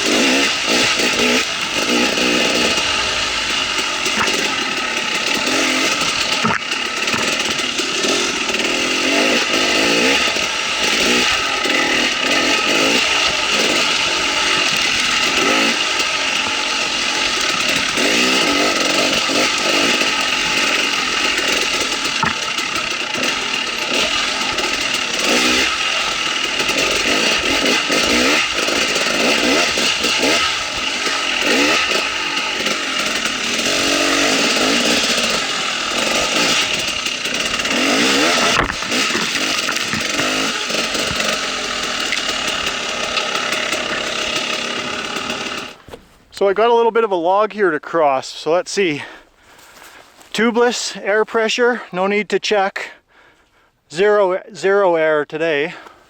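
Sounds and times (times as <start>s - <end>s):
dirt bike engine revving: 0.0s - 46.6s.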